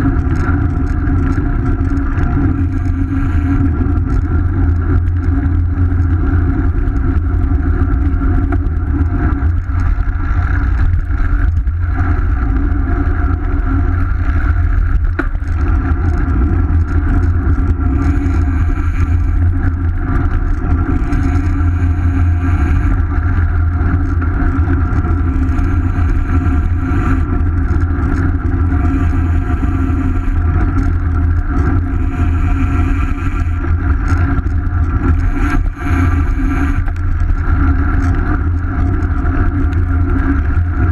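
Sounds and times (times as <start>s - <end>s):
road and tyre noise: 0.0s - 40.9s
wind rumble on microphone: 0.0s - 40.9s.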